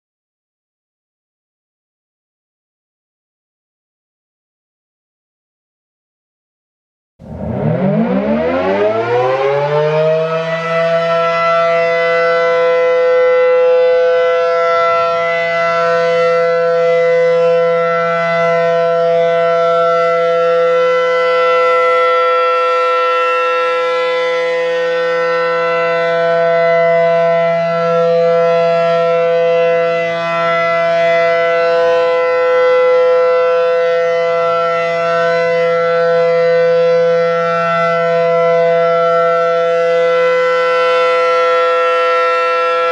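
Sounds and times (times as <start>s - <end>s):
warning siren alert tone: 7.2s - 42.9s.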